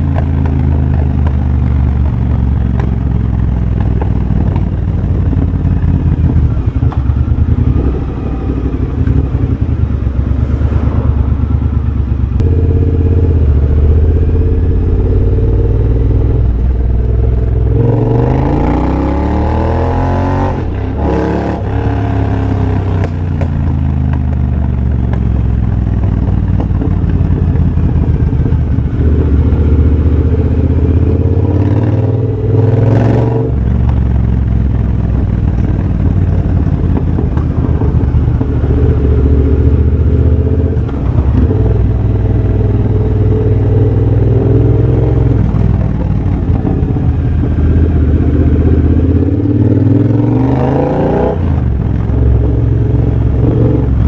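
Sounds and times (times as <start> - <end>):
motorcycle engine exhaust note: 0.0 - 54.0.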